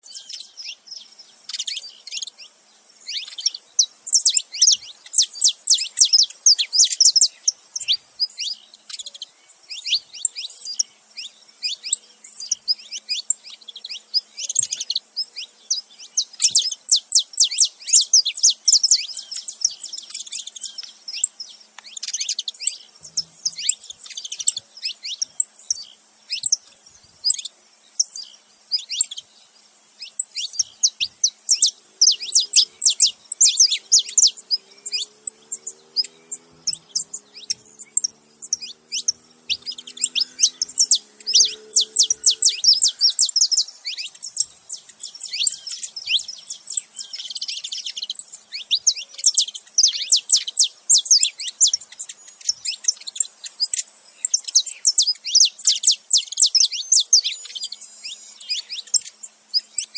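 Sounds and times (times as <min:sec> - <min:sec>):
finches chirping and singing: 0:00.0 - 0:59.9.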